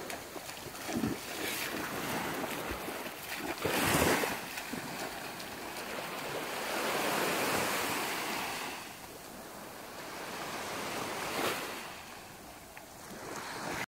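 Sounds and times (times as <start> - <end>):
small waves washing on beach: 0.0 - 13.9.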